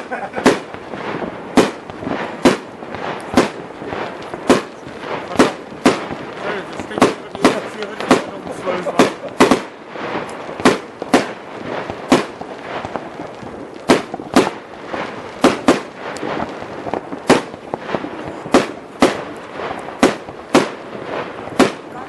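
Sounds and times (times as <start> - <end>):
firecrackers crackling: 0.0 - 22.0
fireworks banging: 0.0 - 22.0.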